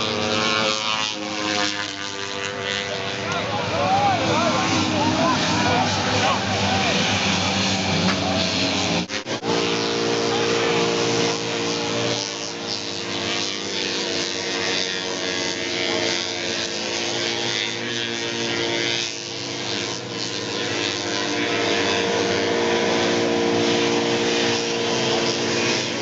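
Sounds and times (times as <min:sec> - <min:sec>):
snowmobile engines droning: 0:00.0 - 0:26.0.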